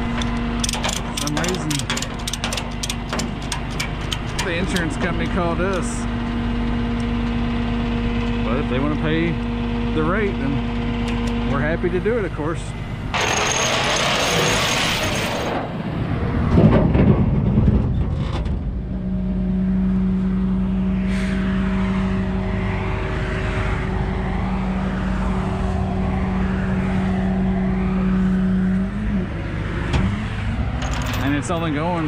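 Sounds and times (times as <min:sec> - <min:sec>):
truck engine drone: 0:00.0 - 0:32.0
truck rumble: 0:00.0 - 0:32.0.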